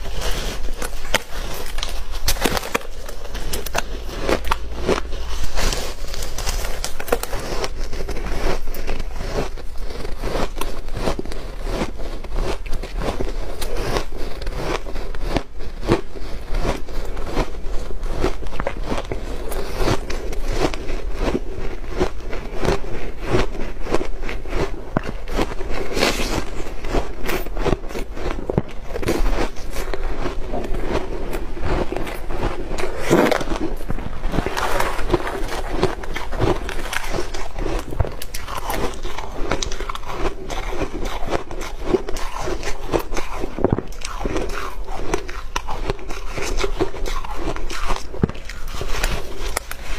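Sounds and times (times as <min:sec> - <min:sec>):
ice crunching as it is chewed: 0:00.0 - 0:49.9.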